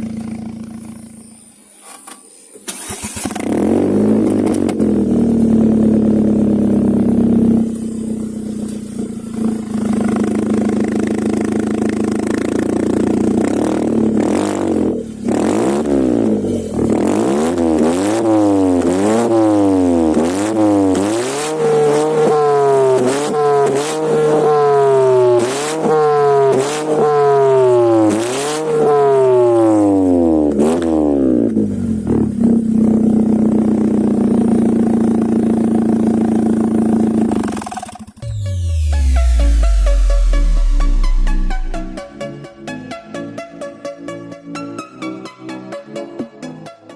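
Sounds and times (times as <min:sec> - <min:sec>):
car exhaust idling and revving: 0:00.0 - 0:01.5, 0:03.2 - 0:42.0.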